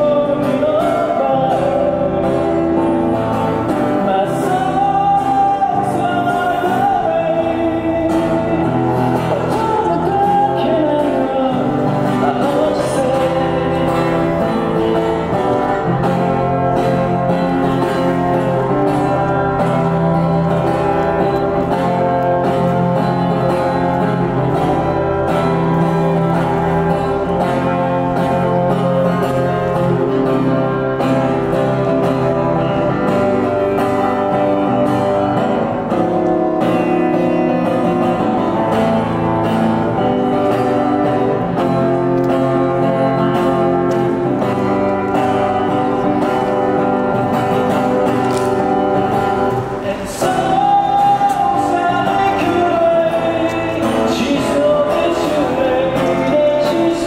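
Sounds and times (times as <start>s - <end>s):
guitar playing: 0.0s - 57.0s.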